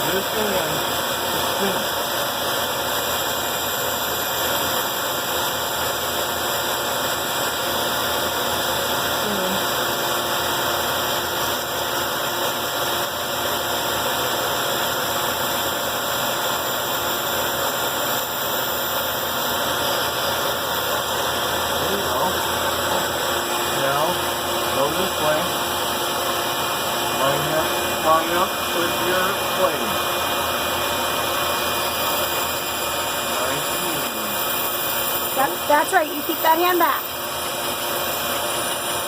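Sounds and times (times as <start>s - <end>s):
band saw cutting wood: 0.0s - 39.0s.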